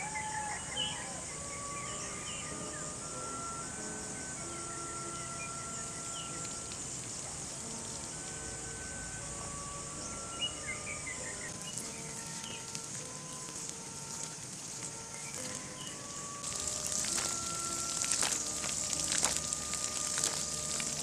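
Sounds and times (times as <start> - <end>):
bird chirps: 0.0 - 21.0
insects chirring: 0.0 - 21.0
soft music of held notes: 0.0 - 21.0.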